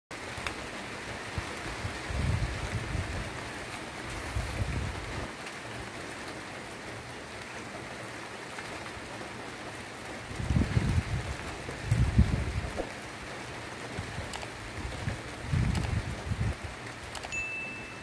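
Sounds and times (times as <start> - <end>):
rain hissing: 0.1 - 18.0.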